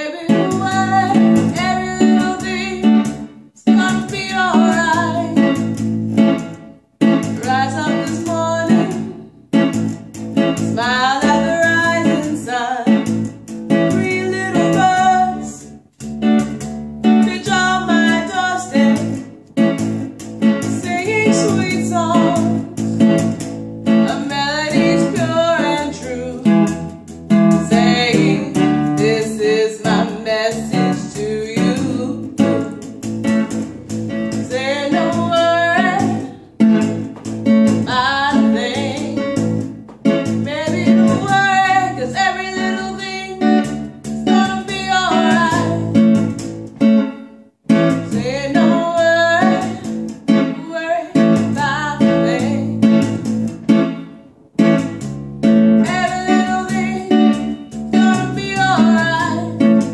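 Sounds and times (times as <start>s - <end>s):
person singing reggae song: 0.0s - 59.9s
strummed acoustic guitar: 0.0s - 59.9s.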